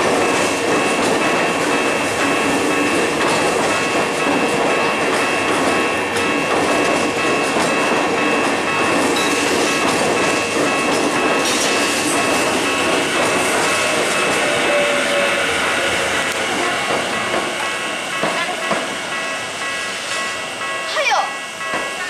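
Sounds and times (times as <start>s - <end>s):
train wheels clacking over rail joints: 0.0s - 20.8s
steady high tone: 1.6s - 22.0s.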